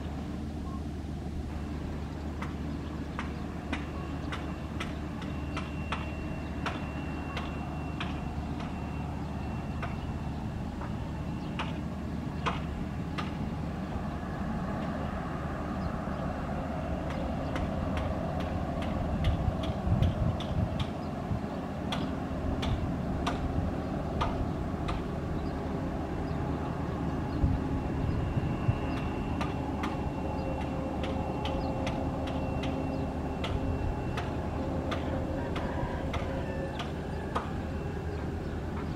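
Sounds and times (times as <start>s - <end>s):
jet engines low rumble: 0.0s - 38.9s.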